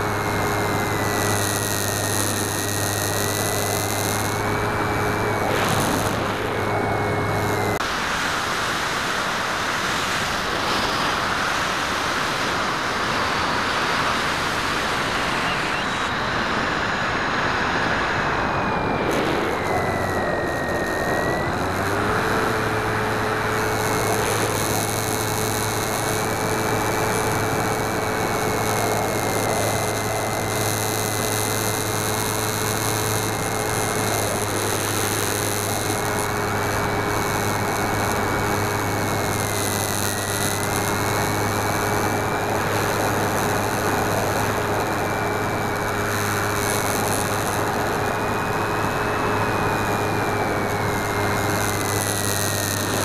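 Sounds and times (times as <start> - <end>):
air noise: 0.0 - 53.0
electric motor and propeller whine: 0.0 - 53.0.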